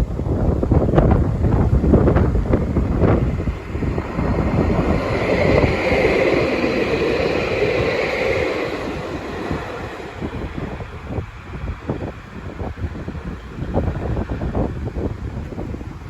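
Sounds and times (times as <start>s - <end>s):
wind buffeting microphone: 0.0s - 16.0s
passing vehicle rumble: 0.7s - 16.0s.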